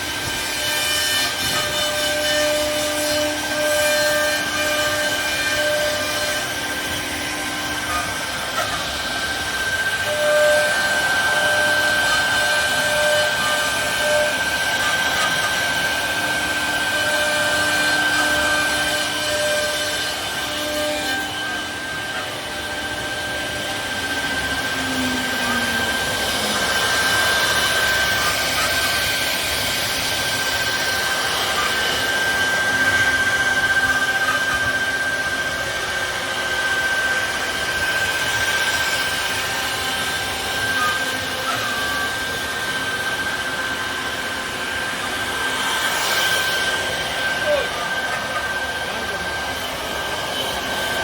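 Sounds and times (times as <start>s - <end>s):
router spindle whining: 0.0s - 51.0s.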